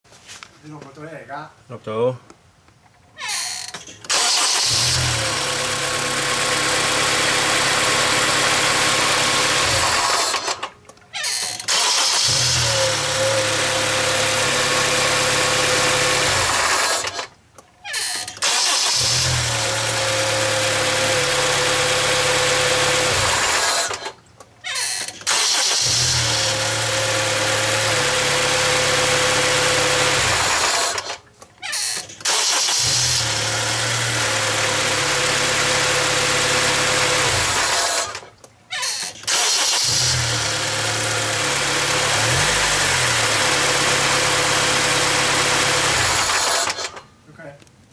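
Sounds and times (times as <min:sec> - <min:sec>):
car engine idling and restarting: 0:03.8 - 0:17.4, 0:18.2 - 0:24.3, 0:25.1 - 0:31.4, 0:32.0 - 0:38.5, 0:39.1 - 0:47.2.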